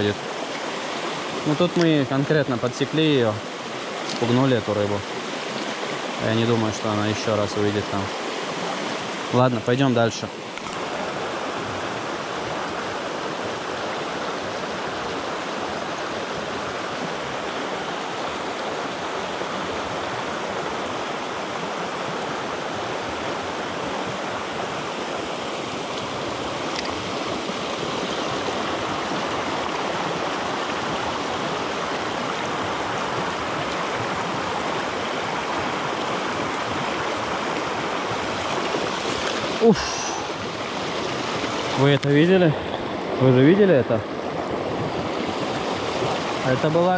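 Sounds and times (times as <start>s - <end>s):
stream rushing over rocks: 0.0s - 46.9s.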